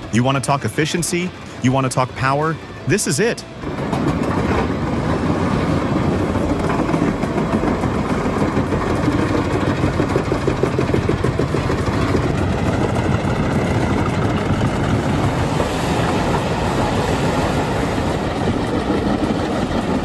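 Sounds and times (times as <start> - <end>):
wood chipper running: 3.4 - 20.0
rapid rhythmic clatter: 3.8 - 20.0.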